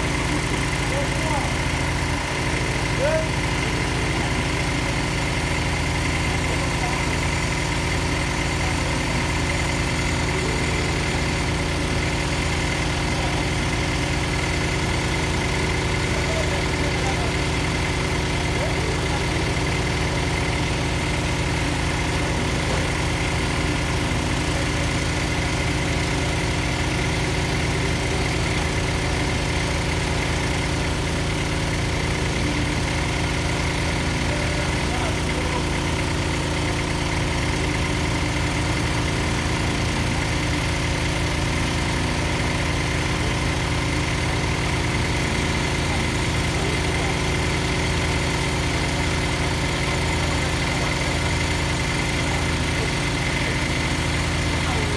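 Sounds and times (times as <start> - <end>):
drilling rig engine running: 0.0 - 54.9.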